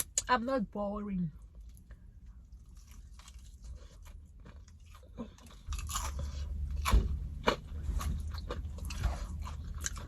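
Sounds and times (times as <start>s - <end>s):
person chewing crunchy food: 1.6s - 10.0s.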